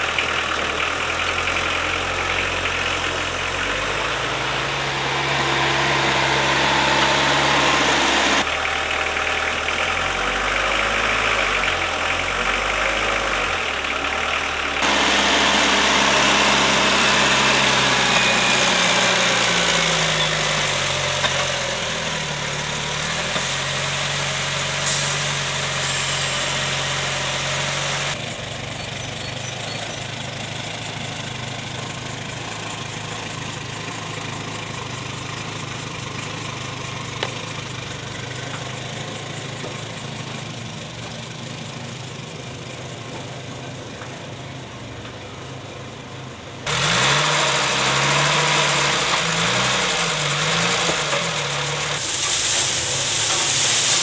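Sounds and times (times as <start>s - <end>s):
small tractor engine running: 0.0s - 54.0s.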